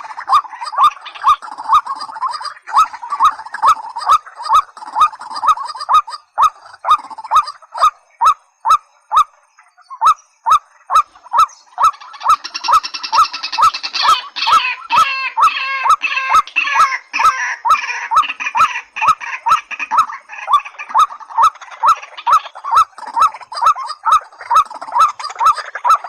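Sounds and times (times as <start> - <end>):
waterhens calling: 0.0 - 26.0.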